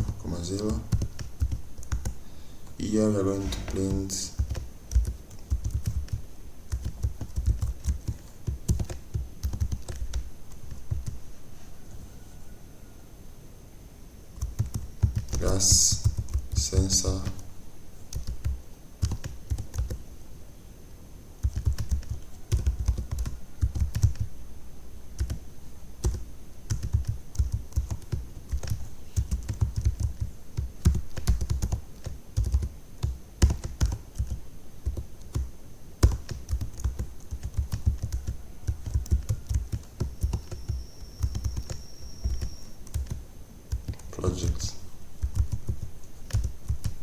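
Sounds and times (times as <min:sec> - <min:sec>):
typing on computer keyboard: 0:00.0 - 0:02.8, 0:03.5 - 0:11.2, 0:14.4 - 0:17.5, 0:18.1 - 0:20.0, 0:21.4 - 0:24.3, 0:25.2 - 0:25.4, 0:26.0 - 0:44.1, 0:45.2 - 0:47.0.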